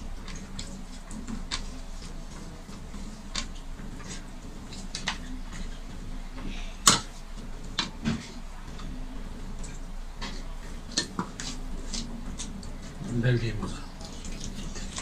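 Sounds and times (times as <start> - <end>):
fingers mixing rice on plates: 0.0 - 15.0.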